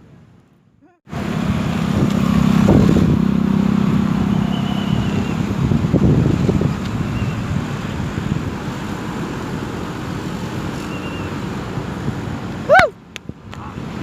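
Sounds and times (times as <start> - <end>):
vehicle engine running: 1.1 - 12.6.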